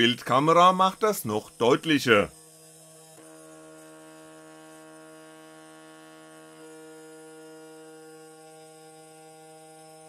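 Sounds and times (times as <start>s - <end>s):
milling spindle motor humming: 0.0s - 10.0s.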